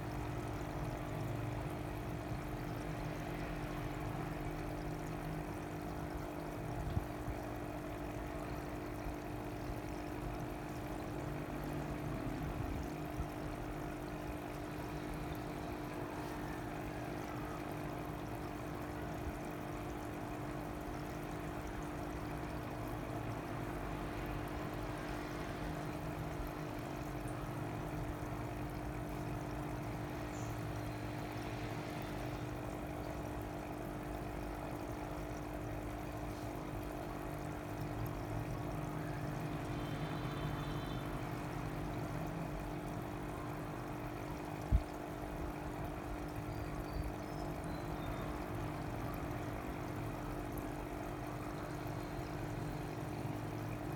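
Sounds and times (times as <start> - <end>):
water pouring and trickling: 0.0 - 53.9
water pump hum: 0.0 - 53.9.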